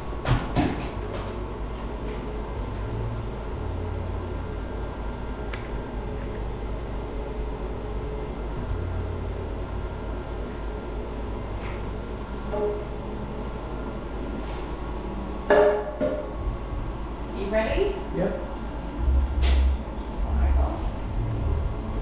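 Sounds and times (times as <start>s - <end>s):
cooling machine humming and blowing: 0.0s - 22.0s
deeper hum: 0.0s - 22.0s.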